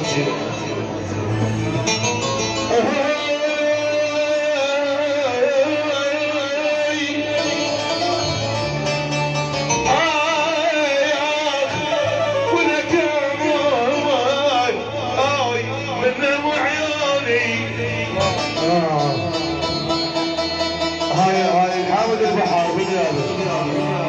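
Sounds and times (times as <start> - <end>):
ornamented melody over bass drone: 0.0 - 24.0.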